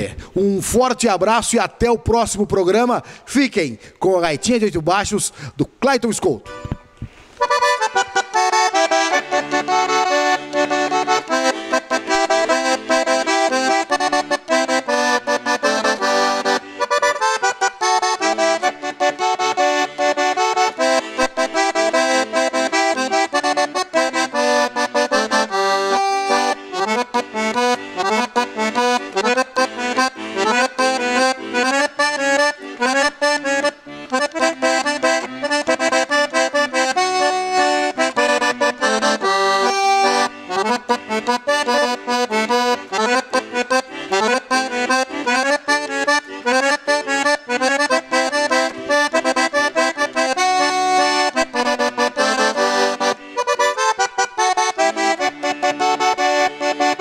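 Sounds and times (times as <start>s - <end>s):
button accordion playing fast tune: 6.4s - 57.0s.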